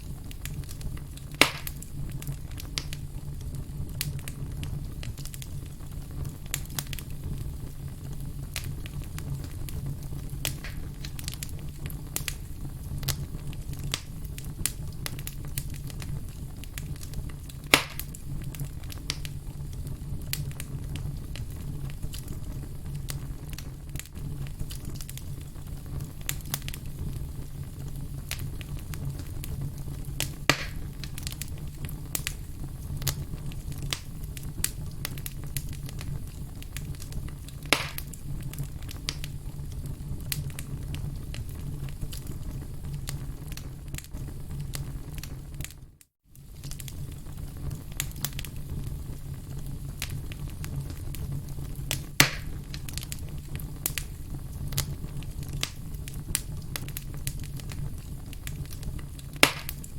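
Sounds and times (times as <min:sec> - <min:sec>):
campfire crackling: 0:00.0 - 0:59.9
loud fire pops: 0:00.0 - 0:59.9.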